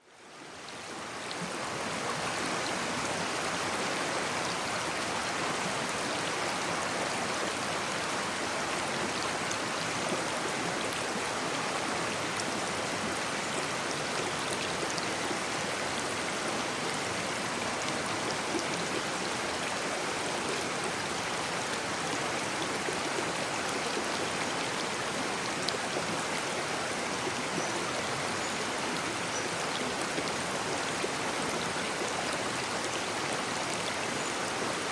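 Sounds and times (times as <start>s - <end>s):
stream burbling: 0.0s - 34.9s.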